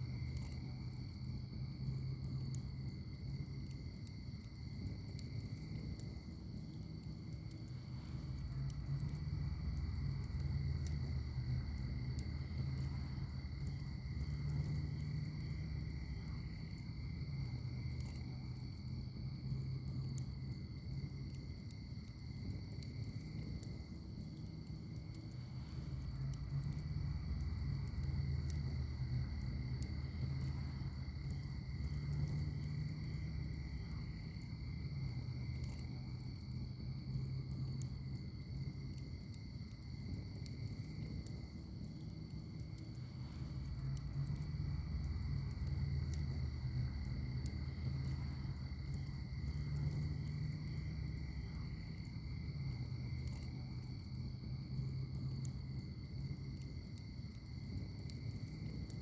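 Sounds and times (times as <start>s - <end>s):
crickets chirping: 0.0s - 59.0s
wood fire crackling and popping: 0.0s - 59.0s.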